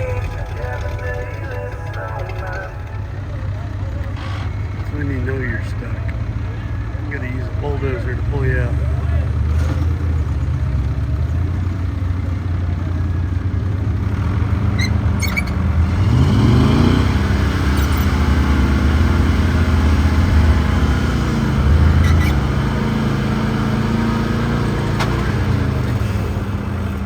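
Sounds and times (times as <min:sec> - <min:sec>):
heavy engine revving: 0:00.0 - 0:27.0.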